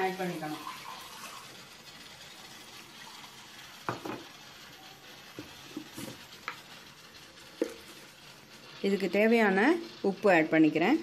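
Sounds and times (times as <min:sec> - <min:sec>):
water pouring into metal pot: 0:00.0 - 0:09.8.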